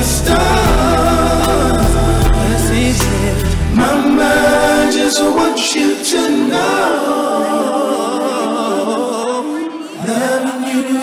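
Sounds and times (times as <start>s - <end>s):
male a cappella group singing: 0.0s - 11.0s.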